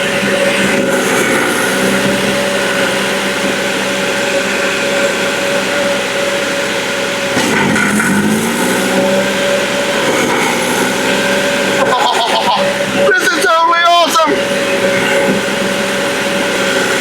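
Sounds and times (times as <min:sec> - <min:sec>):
stump grinder engine grinding: 0:00.0 - 0:17.0.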